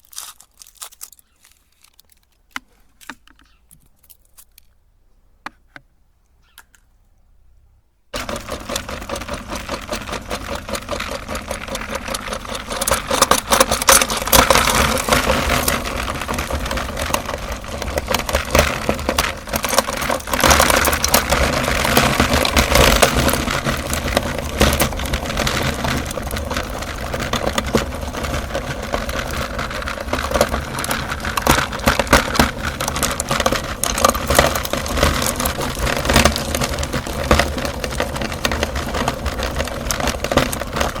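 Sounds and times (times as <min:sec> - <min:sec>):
grinder crunching hard candy: 0:00.0 - 0:02.5, 0:08.2 - 0:41.0
electric meat grinder motor: 0:08.2 - 0:41.0.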